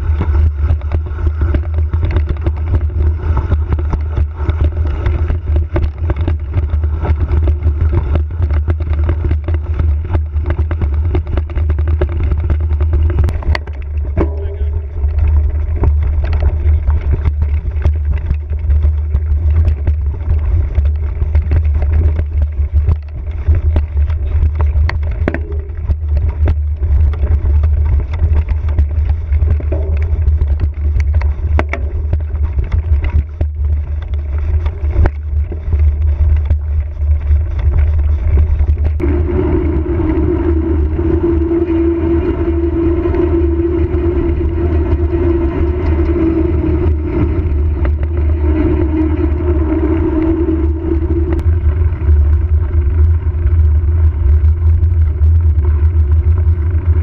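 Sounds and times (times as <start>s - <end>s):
bike rattling over rocks: 0.0s - 57.0s
bike tyres rolling: 0.0s - 57.0s
steady hum: 0.0s - 57.0s
wind rumble on microphone: 0.0s - 57.0s.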